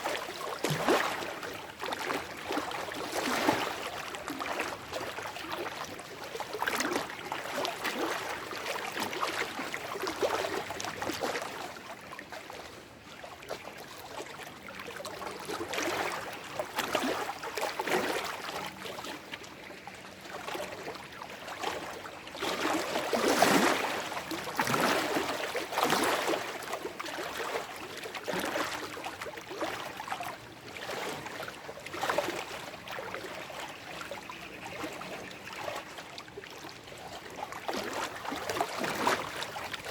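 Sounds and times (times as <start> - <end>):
lake waves lapping over rocks: 0.0 - 39.9.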